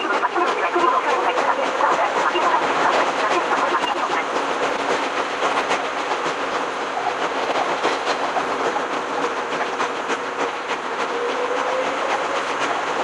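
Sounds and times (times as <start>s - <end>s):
electric train rumbling: 0.0s - 13.0s
wheels clicking over rail joints: 0.0s - 13.0s.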